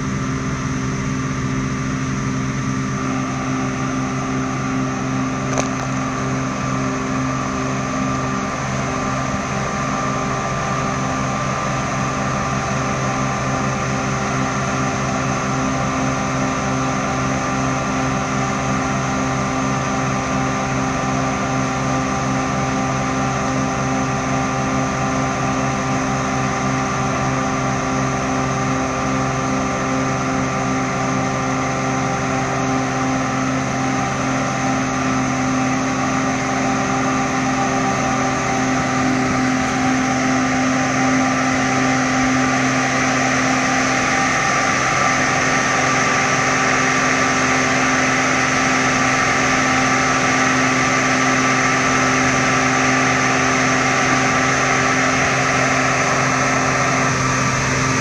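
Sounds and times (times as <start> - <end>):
harvester engine and machinery hum: 0.0 - 58.0.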